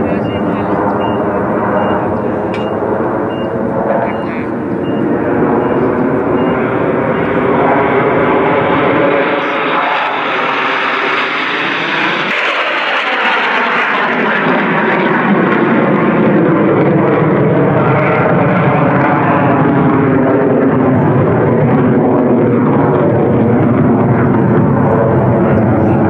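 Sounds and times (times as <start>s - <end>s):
jet engines flying overhead: 0.0s - 26.0s.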